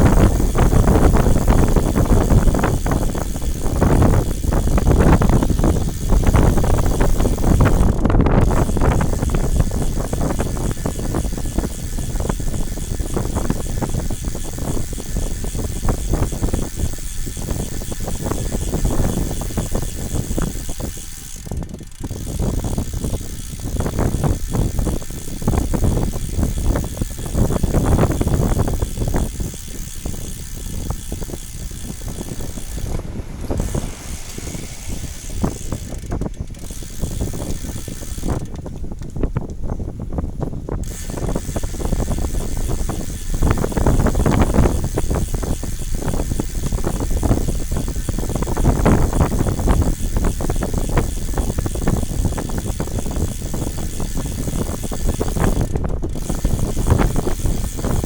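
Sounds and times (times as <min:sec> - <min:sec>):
bicycle rattling over rough ground: 0:00.0 - 0:58.0.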